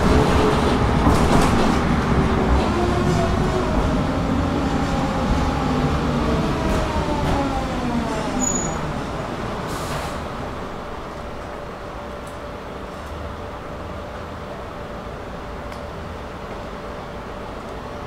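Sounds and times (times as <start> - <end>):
tram motor whine: 0.0 - 18.0
tram running on rails: 0.0 - 18.0.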